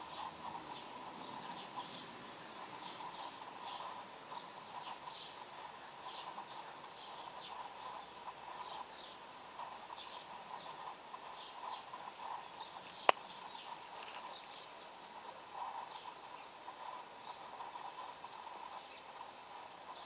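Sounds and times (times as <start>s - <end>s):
faint outdoor ambience: 0.0s - 20.0s
small birds chirping: 0.0s - 20.0s.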